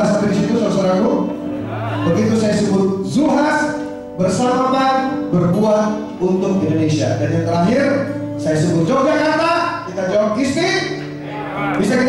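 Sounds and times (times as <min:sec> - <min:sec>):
acoustic guitars: 0:00.0 - 0:12.0.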